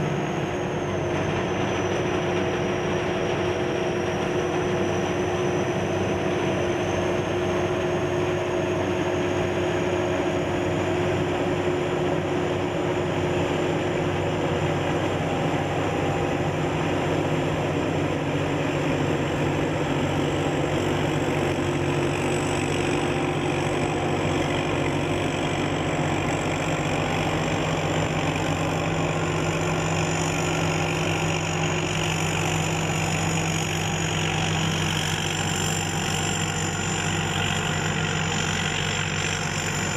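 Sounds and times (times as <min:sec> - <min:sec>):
combine harvester running: 0:00.0 - 0:39.9
thin high whine: 0:00.0 - 0:39.9.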